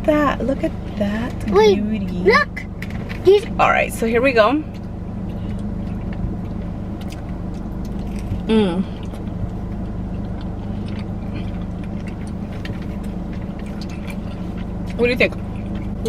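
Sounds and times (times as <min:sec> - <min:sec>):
car engine idling: 0:00.0 - 0:16.0
chewing and mouth sounds: 0:00.8 - 0:03.6, 0:04.6 - 0:16.0.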